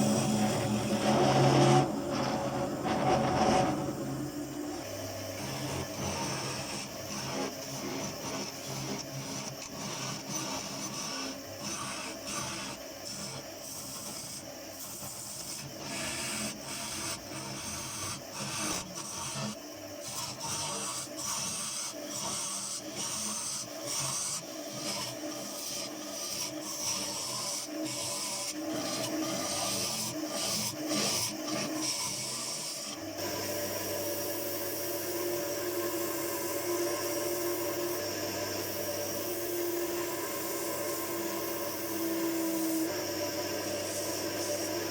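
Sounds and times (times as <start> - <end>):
sandpaper rubbing spinning wood: 0.0 - 4.2, 5.4 - 44.9
lathe humming: 0.0 - 44.9.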